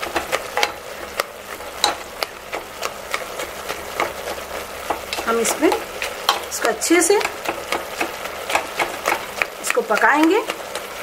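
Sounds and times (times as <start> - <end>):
spatula scraping pot: 0.0 - 11.0.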